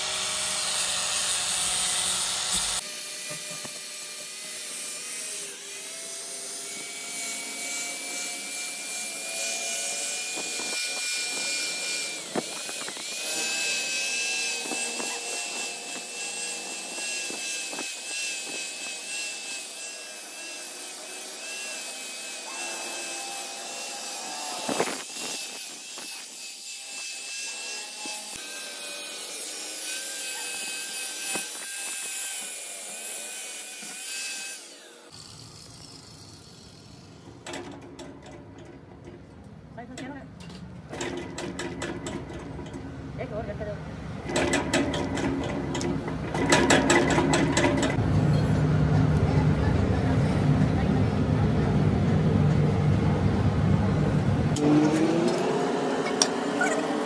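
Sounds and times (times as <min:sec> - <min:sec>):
angle grinder grinding steel: 0:00.0 - 0:43.6, 0:44.2 - 0:48.0, 0:54.5 - 0:57.0.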